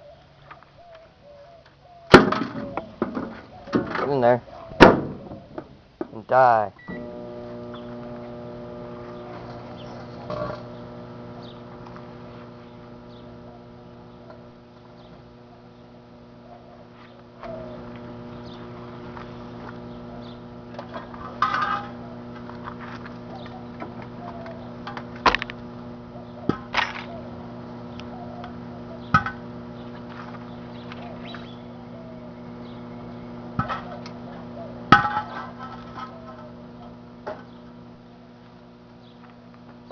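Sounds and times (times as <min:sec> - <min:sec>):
microwave oven humming: 0:06.8 - 0:39.9.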